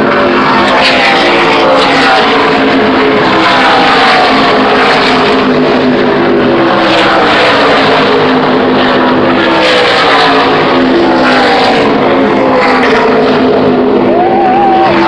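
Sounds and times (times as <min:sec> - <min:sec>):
race cars passing at full throttle: 0:00.0 - 0:15.0.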